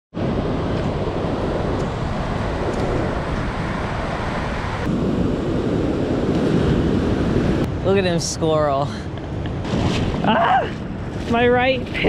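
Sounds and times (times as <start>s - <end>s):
wind buffeting microphone: 0.1s - 12.0s
ocean surf: 0.2s - 12.0s.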